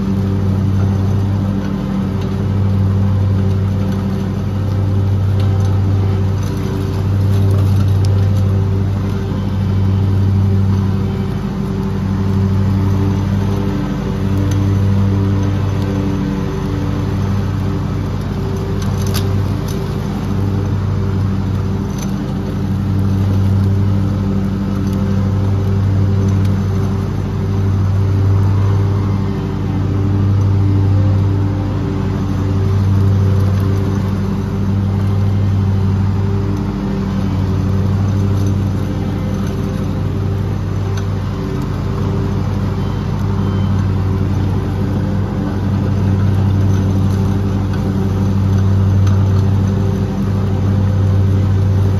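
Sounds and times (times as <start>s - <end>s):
lawn mower engine cutting grass: 0.0s - 51.9s.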